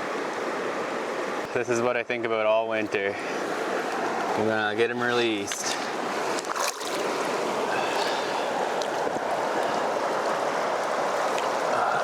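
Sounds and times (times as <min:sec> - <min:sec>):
running river water: 0:00.0 - 0:12.0.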